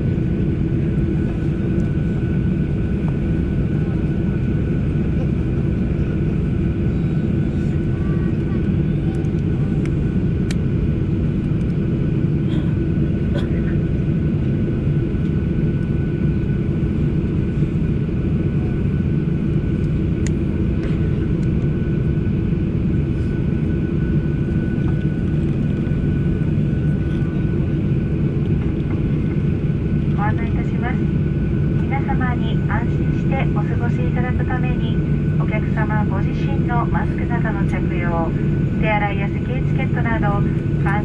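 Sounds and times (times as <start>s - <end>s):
aircraft cabin engine rumble and hiss: 0.0s - 41.0s.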